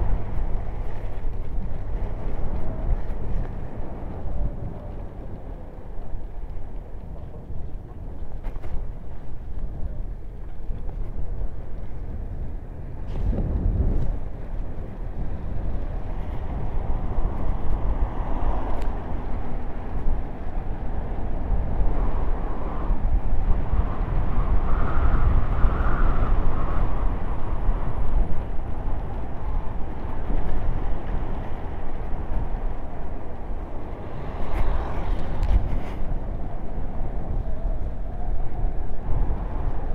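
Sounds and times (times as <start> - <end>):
tyres rolling on asphalt: 0.0 - 39.9
wind buffeting microphone: 0.0 - 39.9.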